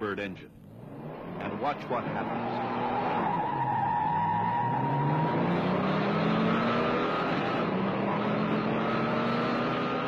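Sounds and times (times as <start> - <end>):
cars accelerating hard: 0.6 - 10.0.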